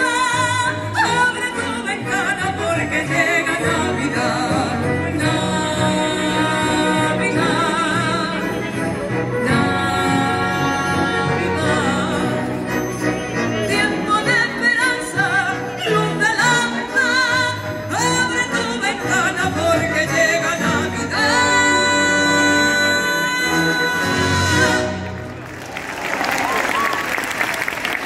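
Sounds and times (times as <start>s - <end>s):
woman singing with vibrato: 0.0s - 12.8s, 13.6s - 25.2s
symphony orchestra playing: 0.0s - 25.6s.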